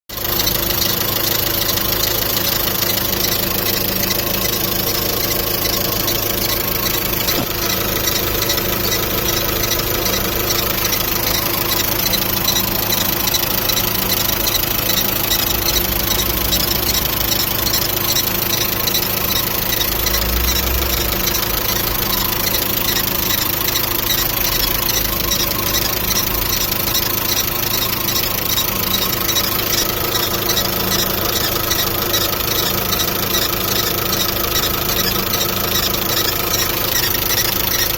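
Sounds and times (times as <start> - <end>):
car engine idling: 0.1 - 37.9
high rhythmic belt squeal: 0.1 - 37.9.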